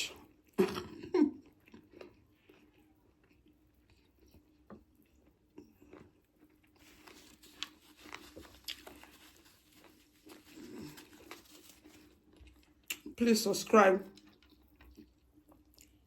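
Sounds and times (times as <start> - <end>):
person chewing food: 0.0 - 13.2, 14.1 - 16.0.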